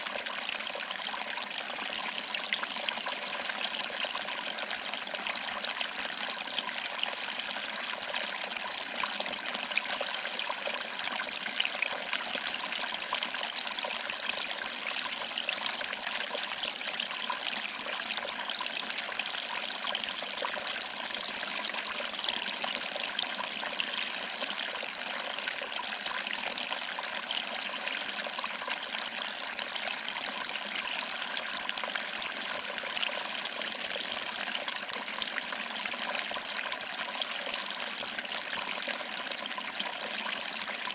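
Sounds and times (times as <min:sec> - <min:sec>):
water trickling over rocks: 0:00.0 - 0:40.9.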